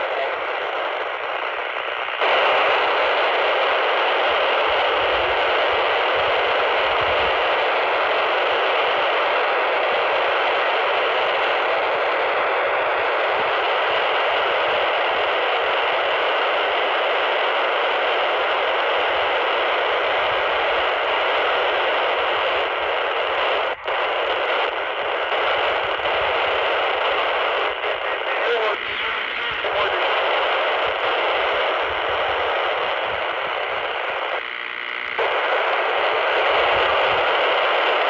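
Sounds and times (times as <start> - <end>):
radio receiver hiss: 0.0 - 38.0.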